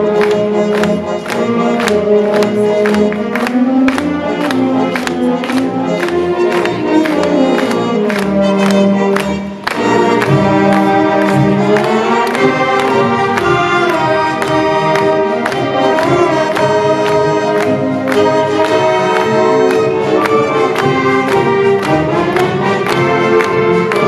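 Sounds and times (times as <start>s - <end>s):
symphonic band playing a march: 0.0s - 24.0s.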